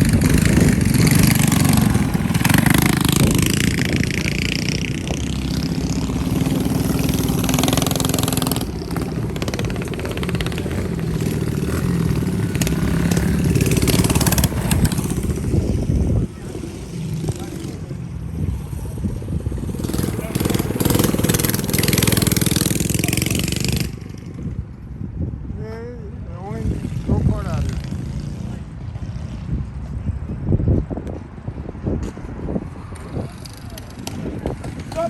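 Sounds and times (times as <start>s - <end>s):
mini bike engines revving: 0.0s - 25.4s, 26.0s - 35.0s.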